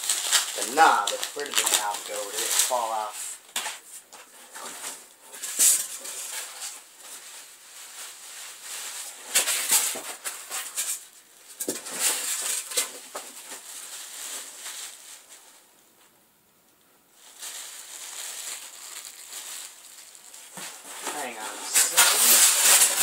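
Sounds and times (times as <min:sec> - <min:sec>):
packing material rustling: 0:00.0 - 0:15.6, 0:17.1 - 0:23.0.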